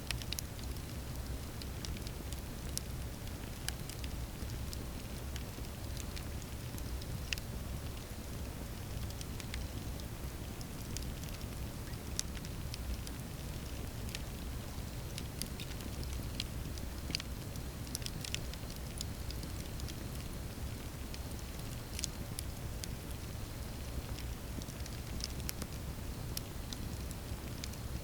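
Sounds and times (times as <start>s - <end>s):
campfire crackling and popping: 0.1s - 27.8s.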